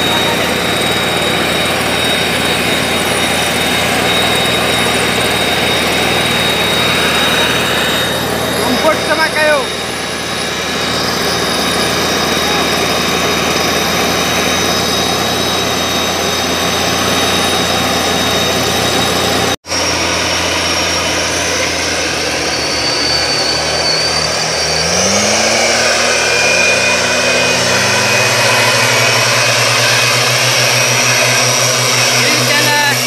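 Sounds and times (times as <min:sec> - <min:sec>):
two-stroke mist blower engines: 0:00.0 - 0:33.0.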